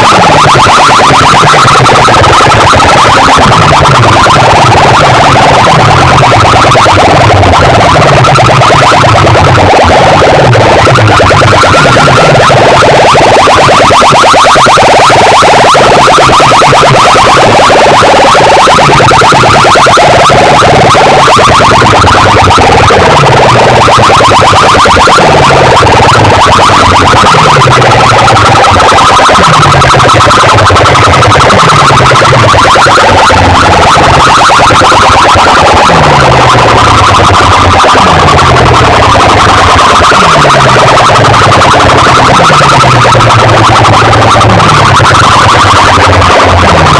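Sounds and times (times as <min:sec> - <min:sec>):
loud distorted electronic dance music: 0:00.0 - 0:46.9.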